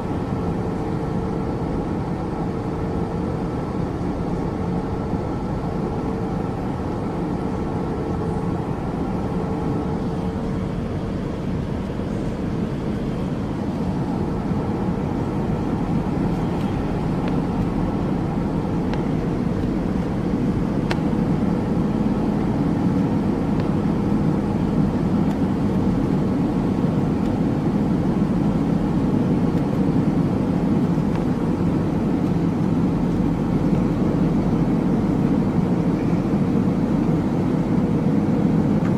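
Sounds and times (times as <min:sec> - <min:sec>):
jet engine and airflow noise: 0:00.0 - 0:38.9.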